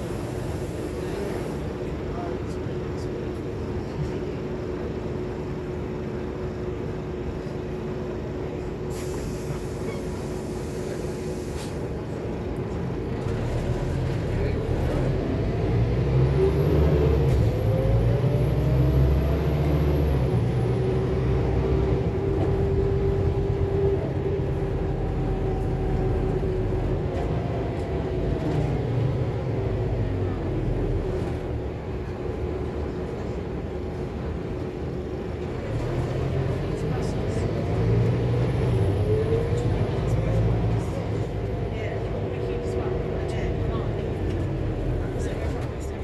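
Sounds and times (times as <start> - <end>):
bus diesel engine: 0.0 - 46.0.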